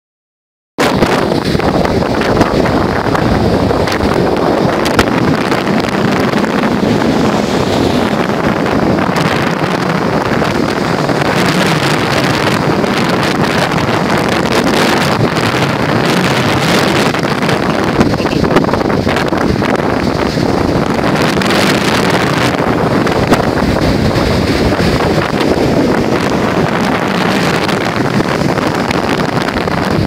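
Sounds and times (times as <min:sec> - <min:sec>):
sea surf breaking on shore: 0:00.8 - 0:30.0
wind buffeting microphone: 0:00.8 - 0:30.0.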